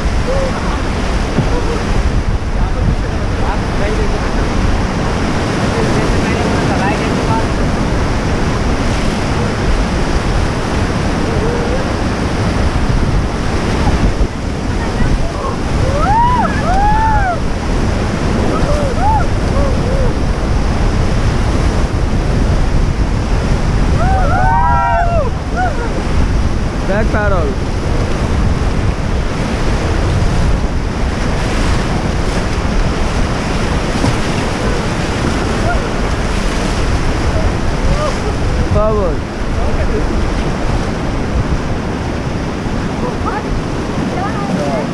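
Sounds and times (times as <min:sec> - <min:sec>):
whitewater rapids rushing: 0:00.0 - 0:44.9
wind buffeting microphone: 0:00.0 - 0:44.9.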